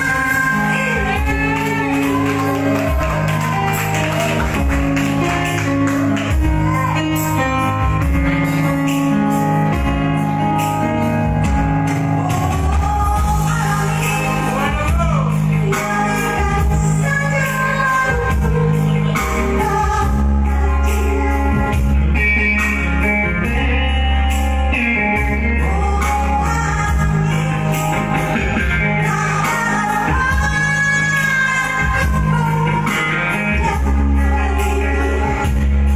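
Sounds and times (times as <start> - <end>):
woman singing: 0.0 - 9.9, 11.3 - 23.9, 24.8 - 35.9
live backing music: 0.0 - 35.9.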